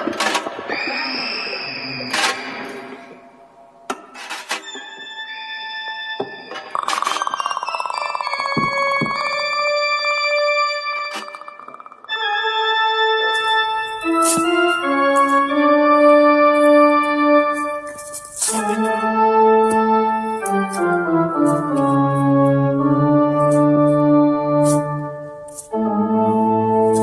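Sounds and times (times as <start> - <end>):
organ-like keyboard chords: 3.1 - 27.0.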